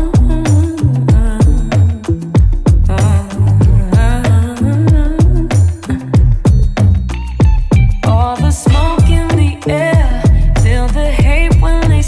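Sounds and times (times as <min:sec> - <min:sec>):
music with heavy beat and sliding bass: 0:00.0 - 0:12.0.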